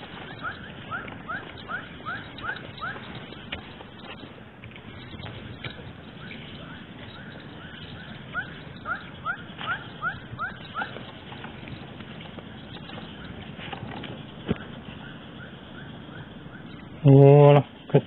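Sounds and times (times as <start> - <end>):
fishing reel squeaking: 0.0 - 14.8.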